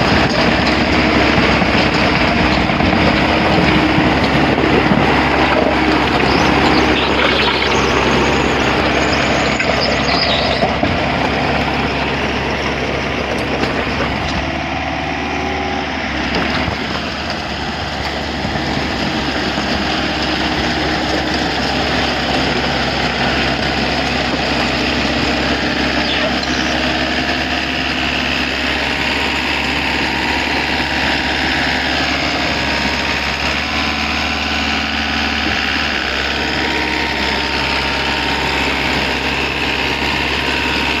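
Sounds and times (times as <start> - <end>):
heavy engine running: 0.0 - 41.0.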